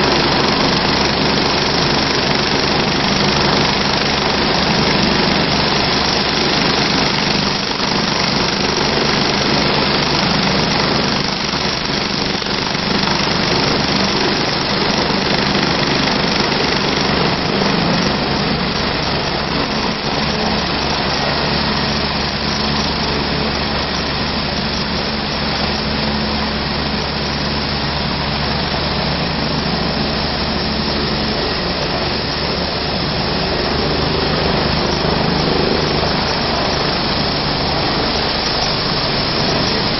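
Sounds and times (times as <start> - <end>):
helicopter engines and rotor running: 0.0 - 39.9.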